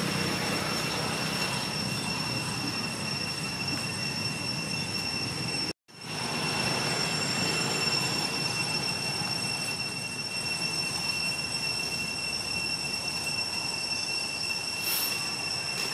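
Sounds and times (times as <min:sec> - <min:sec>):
forest ambience hiss: 0:00.0 - 0:15.9
high-pitched insect drone: 0:00.0 - 0:15.9.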